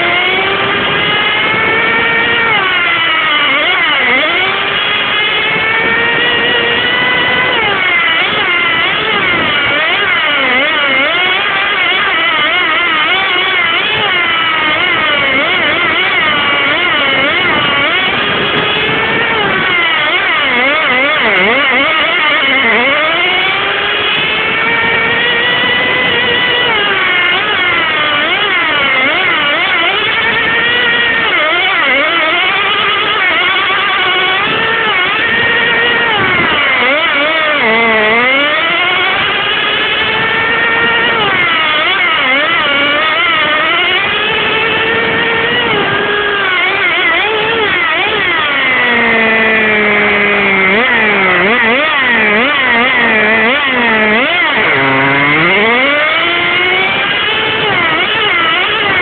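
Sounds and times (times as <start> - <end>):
toy car motor revving: 0.0 - 59.0.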